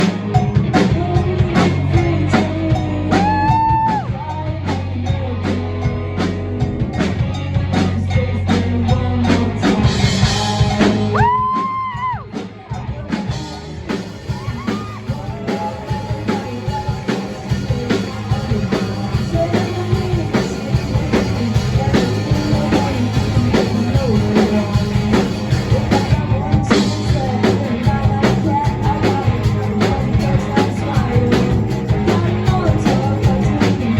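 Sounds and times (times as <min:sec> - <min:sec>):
backing vocals: 0:00.0 - 0:33.9
person singing: 0:00.0 - 0:33.9
rock band playing: 0:00.0 - 0:33.9.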